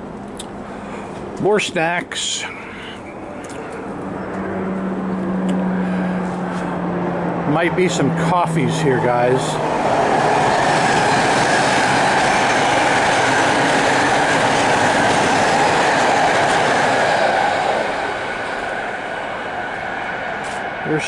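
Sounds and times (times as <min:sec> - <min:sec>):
passing train rail noise: 0:00.0 - 0:21.0.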